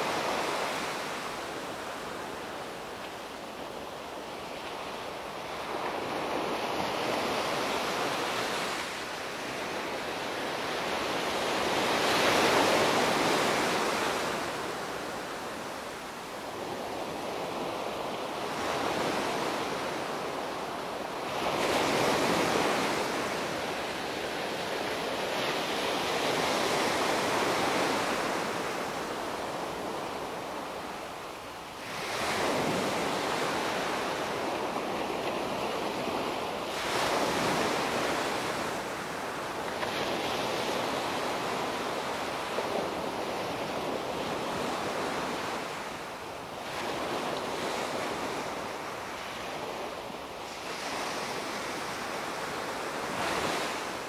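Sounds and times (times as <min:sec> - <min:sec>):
small waves breaking on beach: 0:00.0 - 0:54.0.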